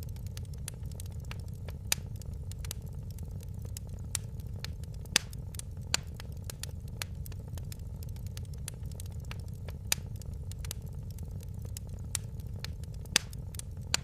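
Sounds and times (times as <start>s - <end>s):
fire crackling: 0.0s - 14.0s
loud fire pops: 0.0s - 14.0s
low rumble of fire: 0.0s - 14.0s.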